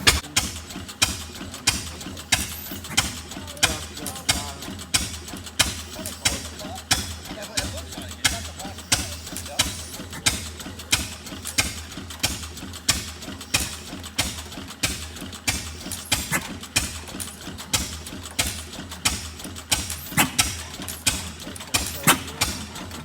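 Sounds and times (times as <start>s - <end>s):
sharp engine clack: 0.0s - 23.0s
stationary engine running: 0.0s - 23.0s.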